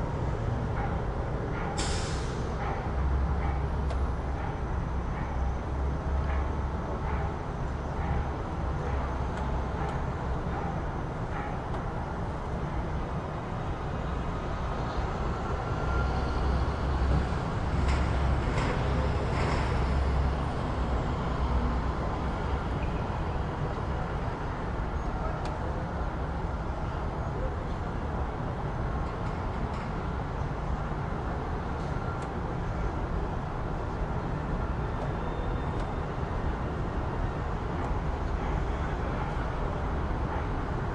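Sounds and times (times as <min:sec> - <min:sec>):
traffic rumble: 0:00.0 - 0:40.9.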